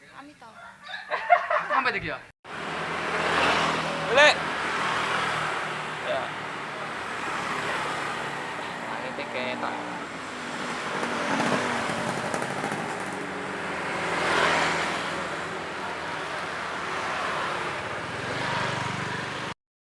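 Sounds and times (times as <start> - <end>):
vehicles passing: 0.9 - 19.6.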